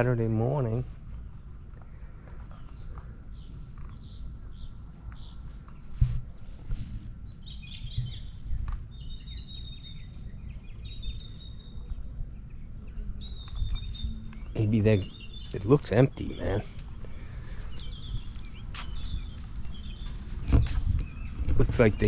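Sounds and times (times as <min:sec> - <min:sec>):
birds chirping and singing: 0:00.0 - 0:22.0
low outdoor rumble: 0:00.0 - 0:22.0.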